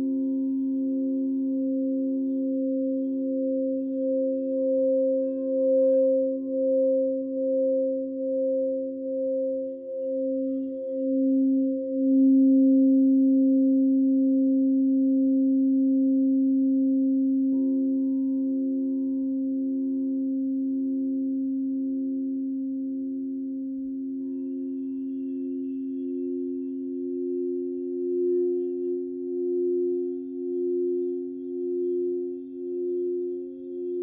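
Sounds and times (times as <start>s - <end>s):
crystal singing bowls ringing: 0.0s - 22.9s, 24.0s - 34.0s.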